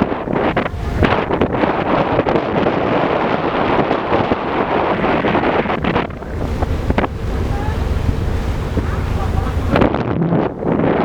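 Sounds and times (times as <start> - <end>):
sea water rushing: 0.0 - 11.0
wind buffeting microphone: 0.0 - 11.0.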